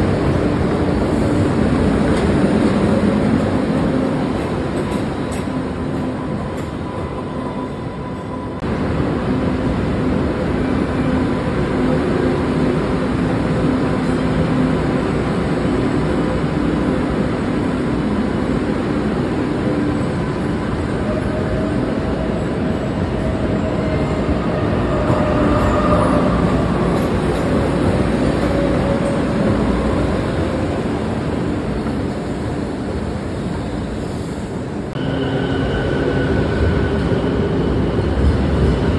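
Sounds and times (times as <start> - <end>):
train wheels rumbling on rail: 0.0 - 38.9
train whine: 0.0 - 38.9.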